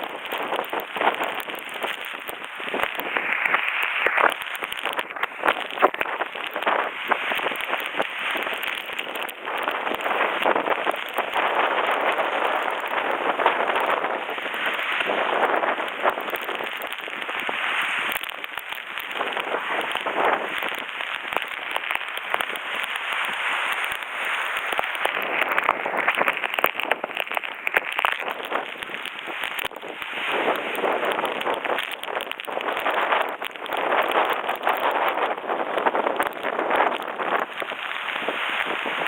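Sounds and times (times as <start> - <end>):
heavy rain pouring and splashing: 0.0 - 39.0.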